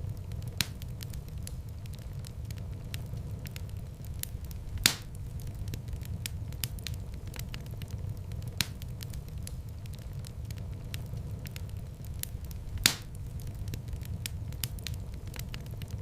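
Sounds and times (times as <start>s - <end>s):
fire crackling: 0.0s - 16.0s
loud fire pops: 0.0s - 16.0s
low rush of flame: 0.0s - 16.0s.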